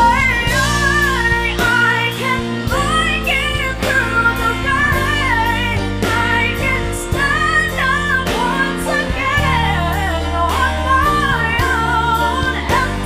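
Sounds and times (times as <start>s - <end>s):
drums: 0.0s - 13.0s
electric guitar: 0.0s - 13.0s
high winding lead melody: 0.0s - 13.0s
keyboard: 0.0s - 13.0s.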